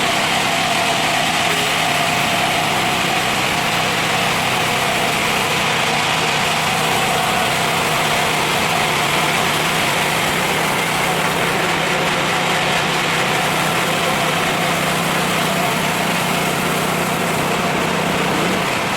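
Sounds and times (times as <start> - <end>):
sawmill engine humming steadily: 0.0 - 18.9.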